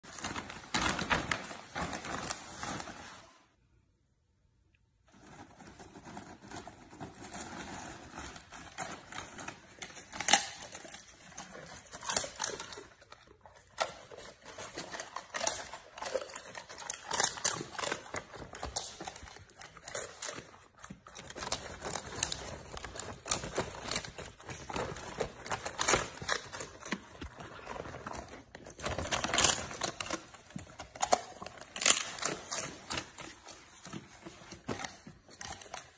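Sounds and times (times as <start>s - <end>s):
dog crunching treats: 6.7s - 35.9s.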